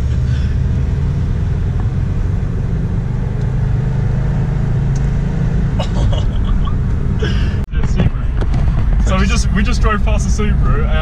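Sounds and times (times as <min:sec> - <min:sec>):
car engine drone from cabin: 0:00.0 - 0:11.0.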